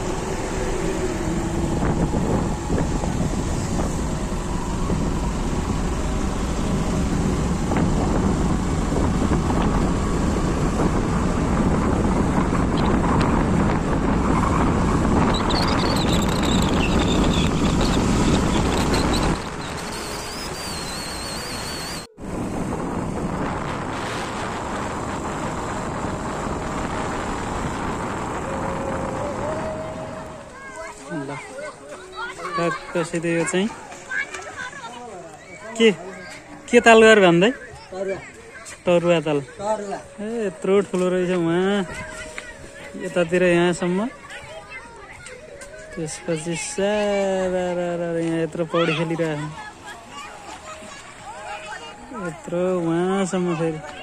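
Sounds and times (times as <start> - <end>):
motorcycle engine and road noise: 0.0 - 54.0
wind rushing over microphone: 0.0 - 54.0.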